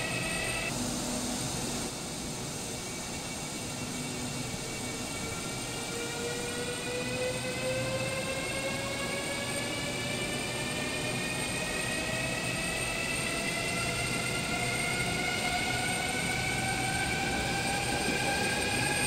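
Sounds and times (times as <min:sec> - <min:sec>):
train rumble: 0:00.0 - 0:19.0
train traction motors whining: 0:00.0 - 0:19.0.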